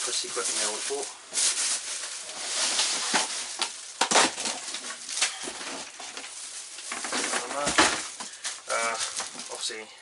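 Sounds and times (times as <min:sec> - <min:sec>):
packaging rustling and crackling: 0:00.0 - 0:09.9.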